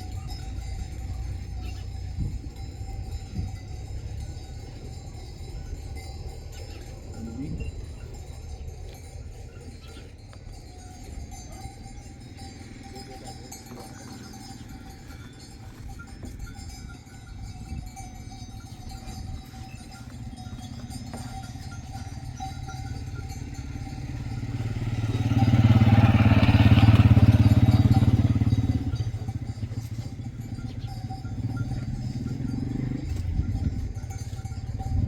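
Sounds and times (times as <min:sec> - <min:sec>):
motor engine running: 0:00.0 - 0:35.0.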